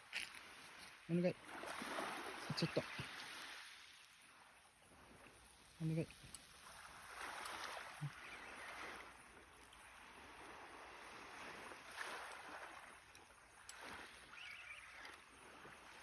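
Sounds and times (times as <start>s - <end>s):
faint sea waves on shore: 0.0s - 16.0s.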